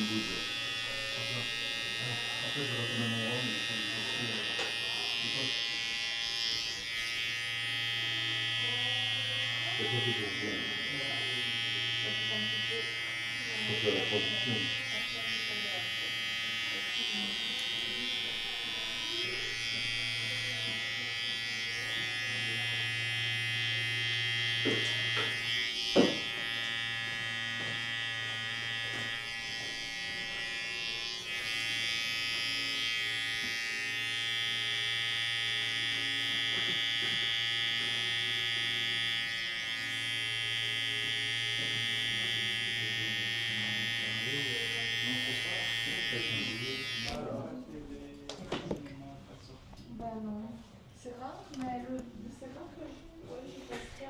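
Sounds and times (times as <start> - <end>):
electric hair clipper buzzing: 0.0 - 47.4.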